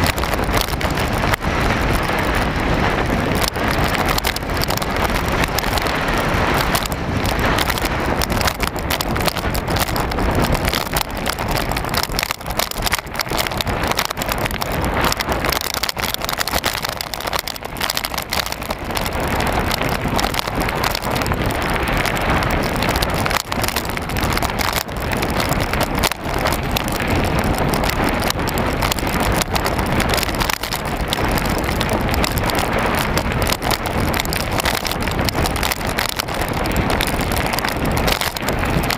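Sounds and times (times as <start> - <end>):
tyre rumble on rough track: 0.0 - 38.9
wind buffeting camera: 0.0 - 38.9.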